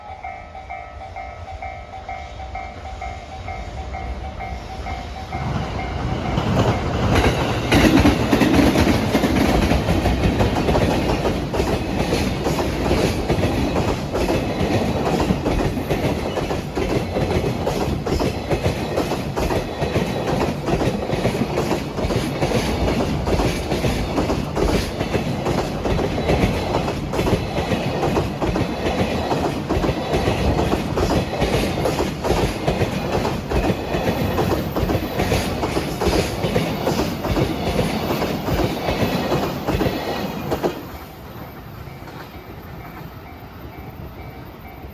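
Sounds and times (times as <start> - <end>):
electric locomotive rumble: 0.0 - 44.9
wheels clacking over rail joints: 5.3 - 43.2.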